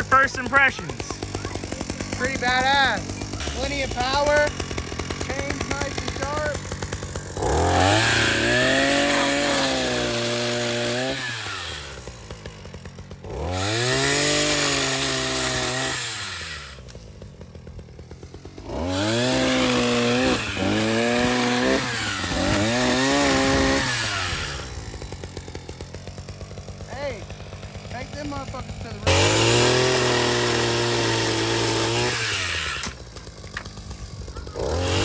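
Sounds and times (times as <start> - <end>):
pole saw engine revving: 0.0 - 35.0.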